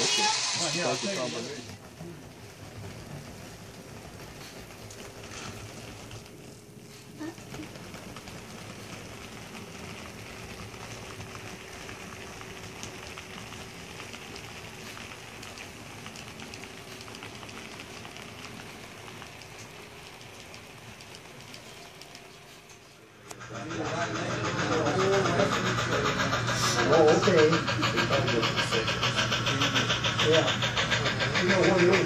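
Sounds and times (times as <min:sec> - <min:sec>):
model train rattling on track: 0:00.0 - 0:32.0
wheels clicking over rail joints: 0:00.0 - 0:32.0.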